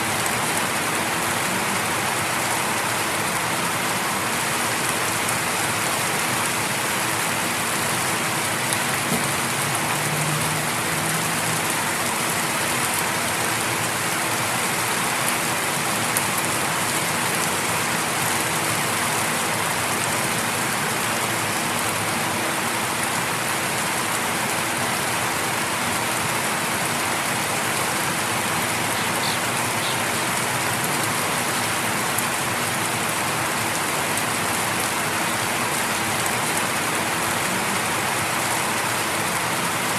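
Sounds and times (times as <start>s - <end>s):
light rain on leaves and concrete: 0.0s - 39.9s.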